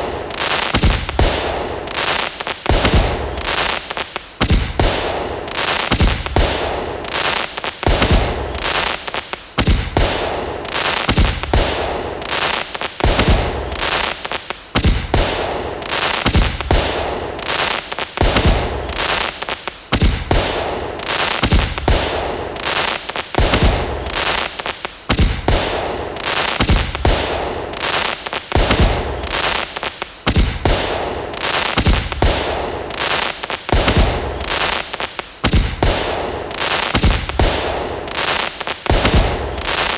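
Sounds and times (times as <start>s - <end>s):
fireworks bangs: 0.0s - 39.9s
fireworks crackling hiss: 0.0s - 39.9s.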